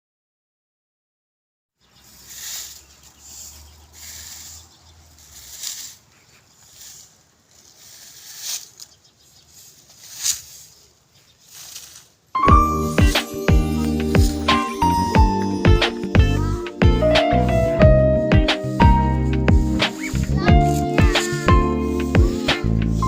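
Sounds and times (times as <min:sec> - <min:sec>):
broom sweeping the ground: 0:02.0 - 0:16.6, 0:18.6 - 0:23.0.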